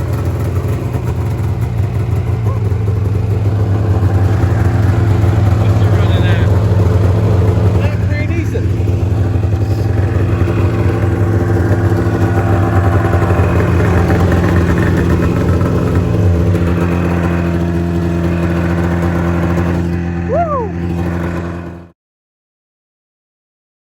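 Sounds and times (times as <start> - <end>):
snowmobile engine idling: 0.0 - 21.9.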